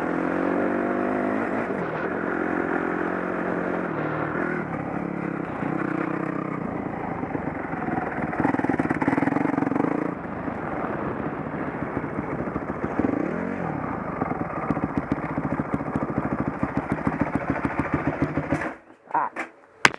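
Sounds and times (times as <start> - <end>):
dirt bike engine revving: 0.0 - 18.8.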